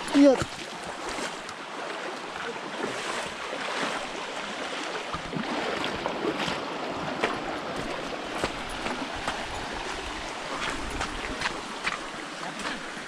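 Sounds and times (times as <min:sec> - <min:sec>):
running water: 0:00.0 - 0:13.0
water splashing: 0:00.0 - 0:13.0.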